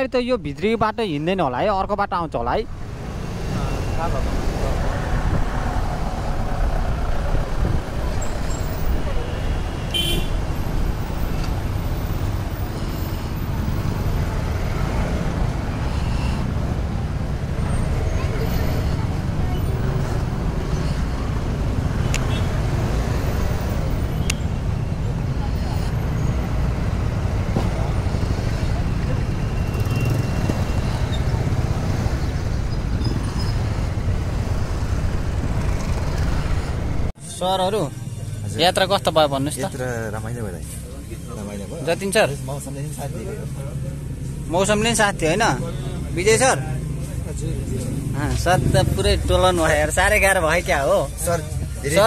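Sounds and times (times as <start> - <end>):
street traffic noise: 0.0 - 52.0.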